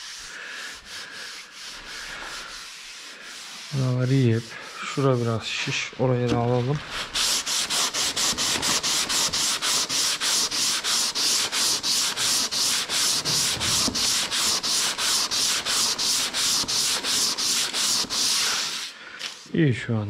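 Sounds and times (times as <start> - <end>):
hand sanding body filler: 0.0 - 19.0.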